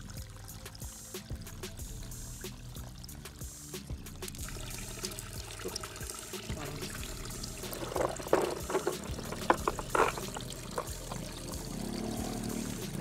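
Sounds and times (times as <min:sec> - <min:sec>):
water trickling over rocks: 0:00.0 - 0:13.0.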